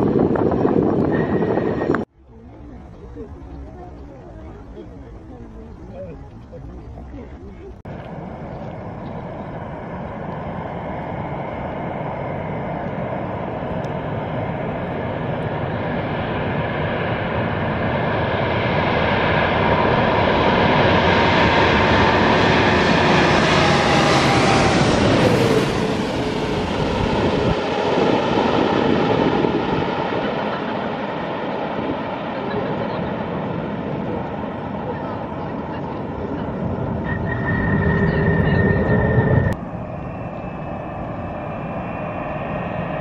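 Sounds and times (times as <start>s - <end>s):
jet airliner passing overhead: 0.0s - 6.1s, 7.9s - 43.0s.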